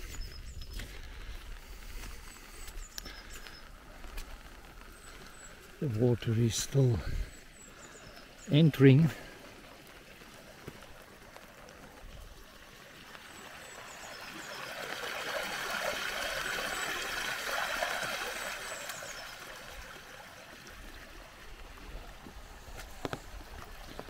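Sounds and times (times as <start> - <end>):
water pouring into pond: 0.0 - 24.0.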